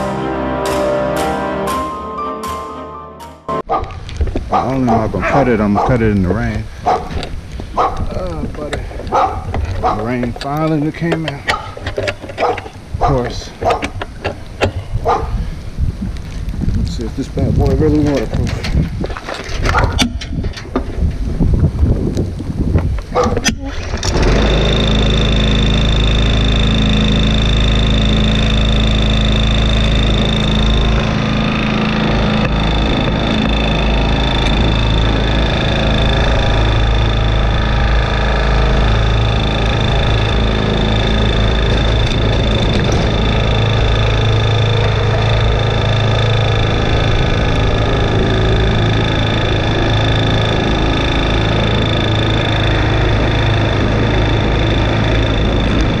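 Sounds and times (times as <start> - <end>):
lawn mower engine running: 0.0 - 1.4, 3.5 - 15.9, 17.0 - 56.0
high whine: 0.0 - 56.0.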